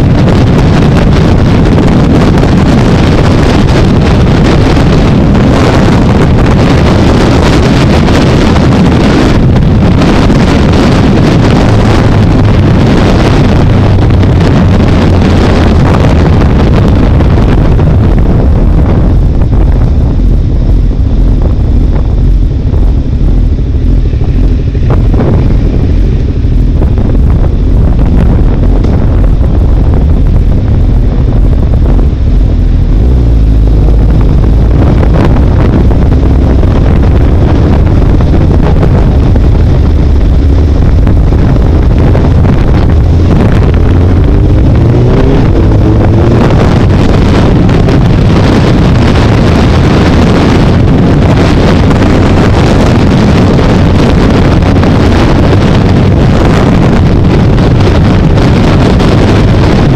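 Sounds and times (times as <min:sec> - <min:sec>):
heavy wind noise on microphone: 0:00.0 - 0:59.9
motorcycle engine running: 0:00.0 - 0:59.9.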